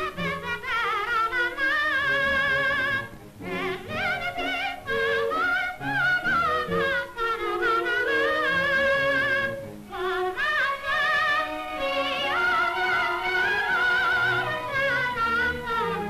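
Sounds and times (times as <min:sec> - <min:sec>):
instrumental accompaniment: 0:00.0 - 0:16.0
soprano singing opera: 0:00.0 - 0:16.0.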